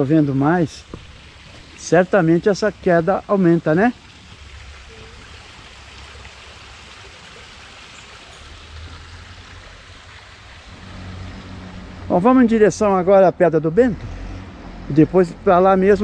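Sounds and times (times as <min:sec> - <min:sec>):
waterfall trickling and splashing: 0:00.0 - 0:16.0.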